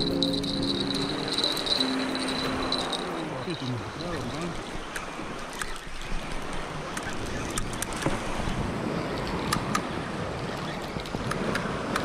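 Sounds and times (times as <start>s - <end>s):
sea waves washing on shore: 0.0s - 12.0s
wind rumbling on microphone: 0.0s - 12.0s.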